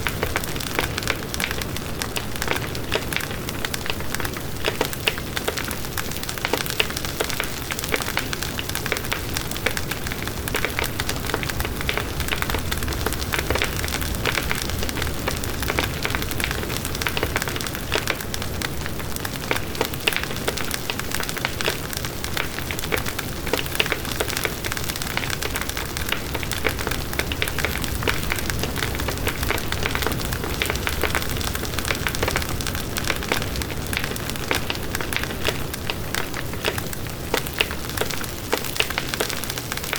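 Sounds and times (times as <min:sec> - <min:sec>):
campfire wood crackling: 0:00.0 - 0:39.9.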